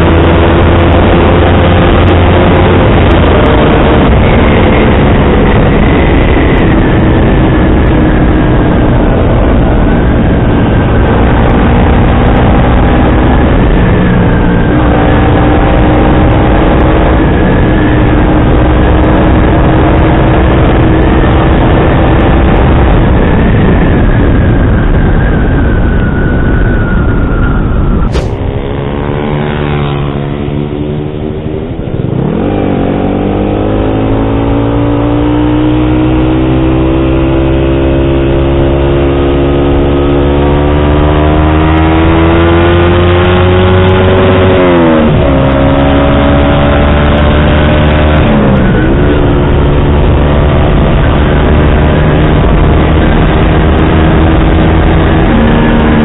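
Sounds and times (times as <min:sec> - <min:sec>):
motorcycle engine revving: 0:00.0 - 0:23.0, 0:28.1 - 0:56.0.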